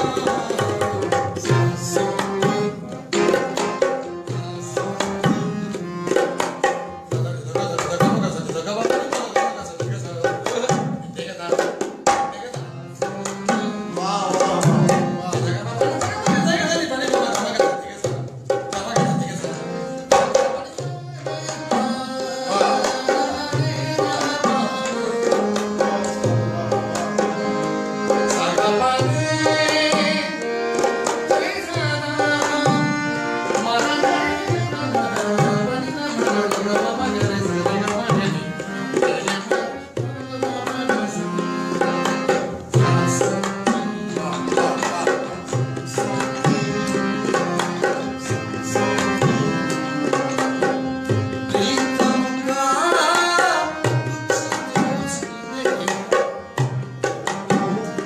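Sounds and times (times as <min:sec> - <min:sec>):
harmonium notes: 0:00.0 - 0:58.0
tabla playing: 0:00.0 - 0:58.0.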